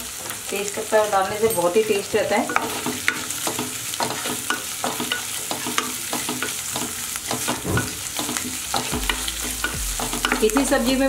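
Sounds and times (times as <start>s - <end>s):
vegetables sizzling in hot oil: 0.0s - 11.0s
wooden spatula scraping a pan: 0.2s - 11.0s.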